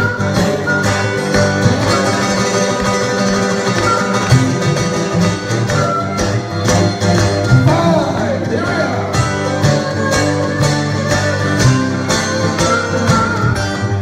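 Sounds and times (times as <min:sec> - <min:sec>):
acoustic guitars picking: 0:00.0 - 0:14.0
harmonica notes: 0:00.0 - 0:14.0.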